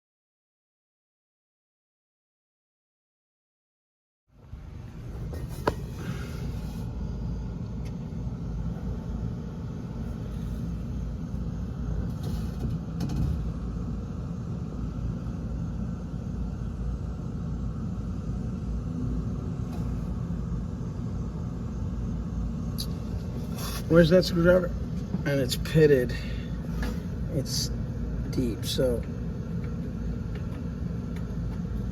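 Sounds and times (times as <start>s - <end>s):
steady low rumble: 4.4s - 31.9s.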